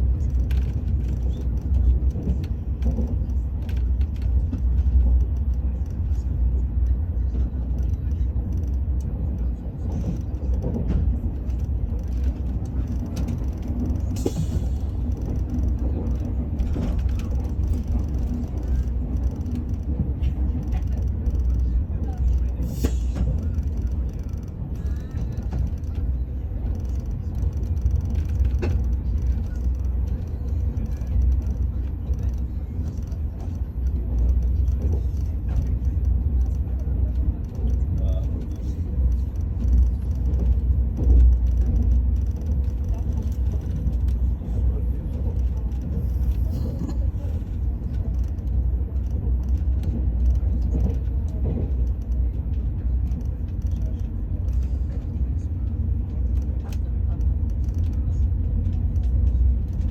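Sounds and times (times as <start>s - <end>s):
light clicks and rattles: 0.0s - 59.9s
train rumble: 0.0s - 59.9s
faint voices: 0.4s - 59.9s.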